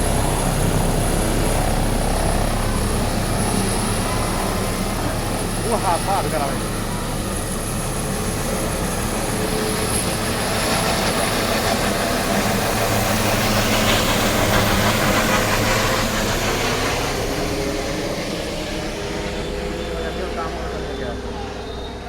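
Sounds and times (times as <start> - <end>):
helicopter engine and rotors: 0.0 - 22.0.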